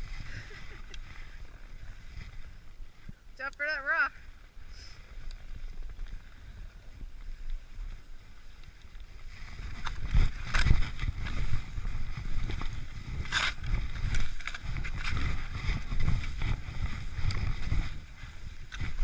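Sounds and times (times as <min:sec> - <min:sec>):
wind buffeting microphone: 0:00.0 - 0:03.4, 0:04.0 - 0:19.0
skis scraping over packed snow: 0:00.0 - 0:19.0.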